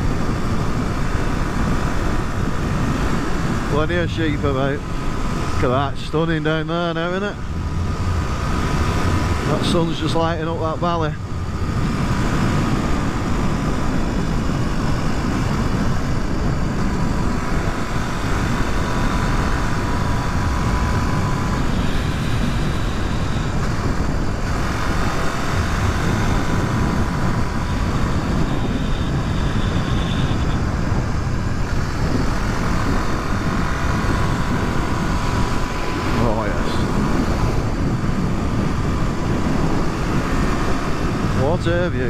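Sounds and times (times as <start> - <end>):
motorcycle engine running steadily: 0.0 - 42.0
road noise: 0.0 - 42.0
wind rushing: 0.0 - 42.0.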